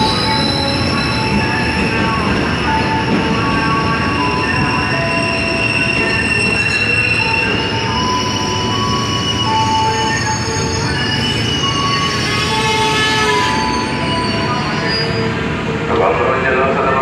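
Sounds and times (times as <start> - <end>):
train wheels squealing: 0.0 - 15.5
train rumble: 0.0 - 17.0.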